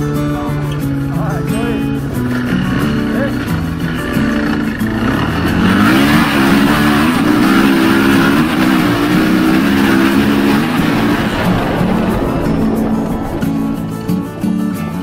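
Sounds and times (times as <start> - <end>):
dirt bike engine revving: 1.5 - 14.4.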